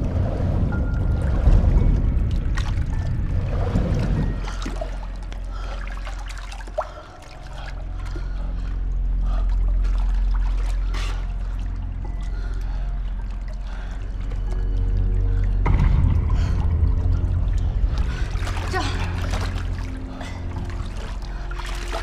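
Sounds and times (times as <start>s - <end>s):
low droning background: 0.0s - 22.0s
water splashing and trickling: 0.0s - 22.0s.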